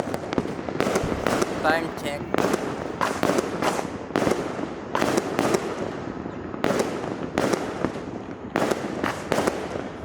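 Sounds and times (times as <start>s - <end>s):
distant firecrackers crackling: 0.0s - 10.0s
firework bangs: 0.0s - 10.0s.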